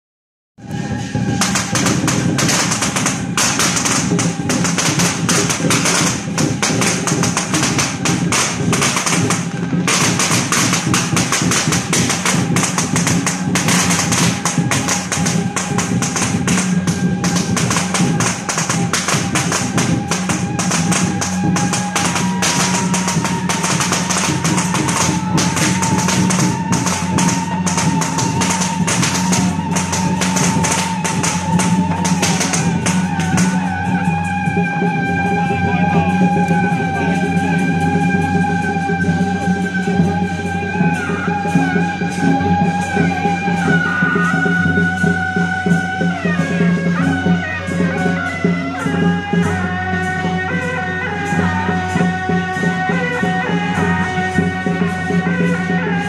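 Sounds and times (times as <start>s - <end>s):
cymbals and drums clashing: 0.6s - 56.0s
long held high note: 10.8s - 56.0s.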